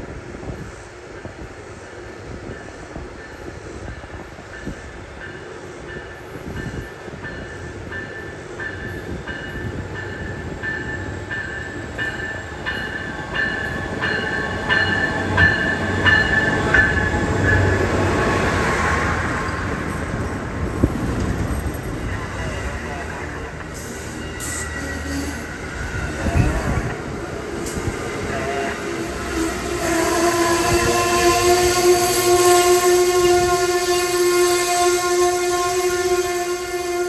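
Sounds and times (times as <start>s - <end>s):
passenger train approaching: 0.0s - 37.0s.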